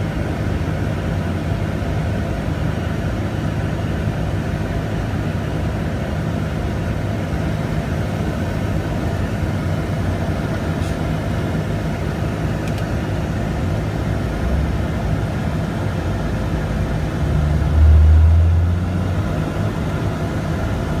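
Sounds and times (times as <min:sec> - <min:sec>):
vehicle running noise: 0:00.0 - 0:21.0.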